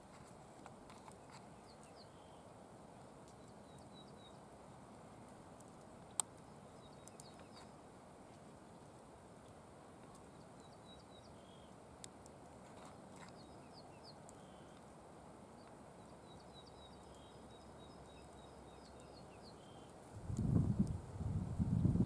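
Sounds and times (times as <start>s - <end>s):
background hiss: 0.0s - 22.0s
songbird singing: 0.9s - 4.5s, 5.8s - 7.8s, 8.6s - 22.0s.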